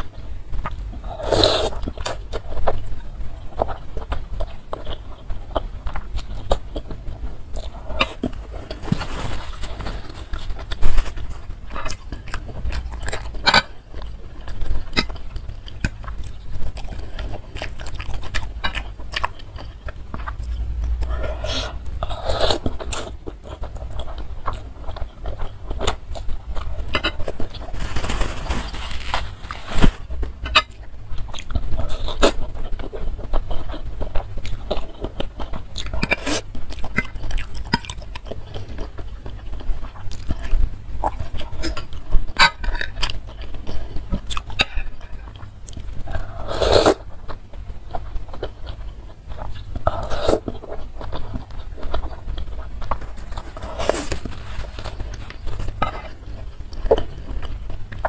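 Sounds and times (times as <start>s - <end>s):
chewing: 0.0s - 58.0s.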